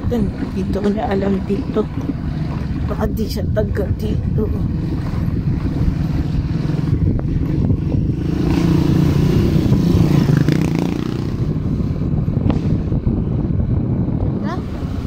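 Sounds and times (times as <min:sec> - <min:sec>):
motor scooter engine running: 0:00.0 - 0:14.7
road noise: 0:00.0 - 0:15.0.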